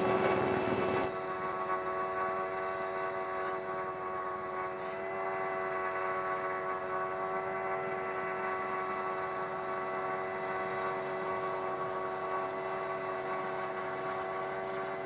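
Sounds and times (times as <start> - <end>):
helicopter engine drone: 0.0 - 15.0.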